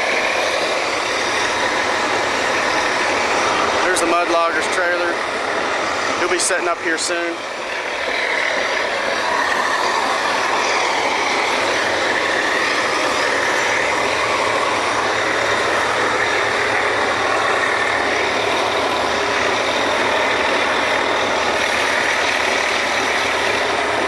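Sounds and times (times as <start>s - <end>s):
drilling rig machinery droning: 0.0s - 24.0s.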